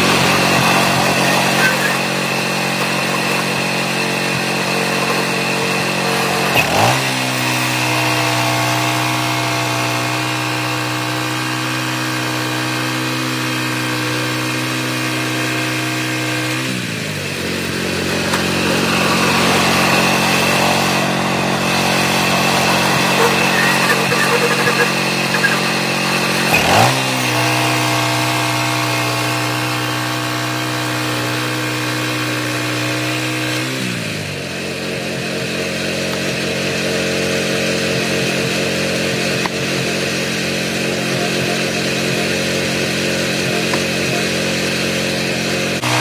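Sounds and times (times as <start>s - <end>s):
saw blade cutting log: 0.0s - 34.0s, 39.4s - 46.0s
small gas engine running: 0.0s - 46.0s.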